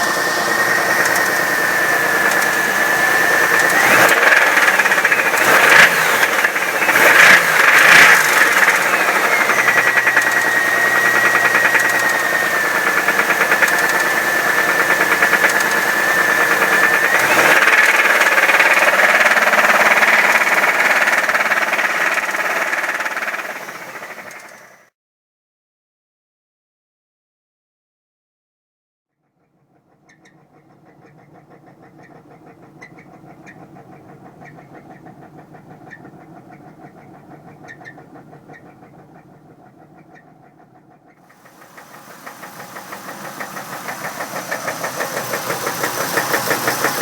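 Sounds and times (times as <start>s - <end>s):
car engine knocking and revving: 0.0s - 24.9s, 29.6s - 47.0s.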